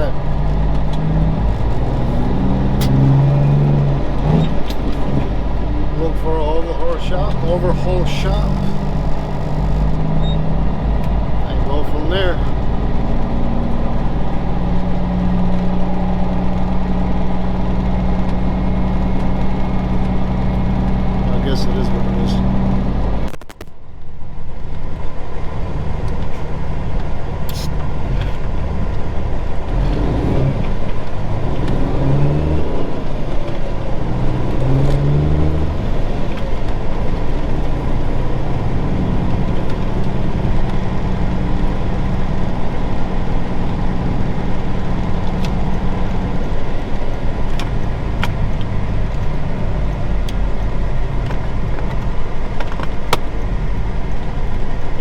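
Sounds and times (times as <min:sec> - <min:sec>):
diesel truck engine accelerating: 0:00.0 - 0:55.0.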